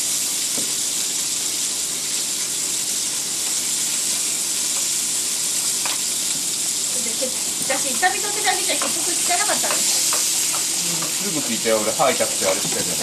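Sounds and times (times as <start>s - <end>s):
food sizzling on a grill plate: 0.0s - 13.0s.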